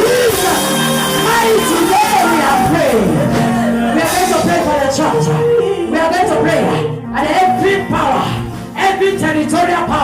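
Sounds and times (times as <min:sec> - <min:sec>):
many voices praying aloud: 0:00.0 - 0:08.5.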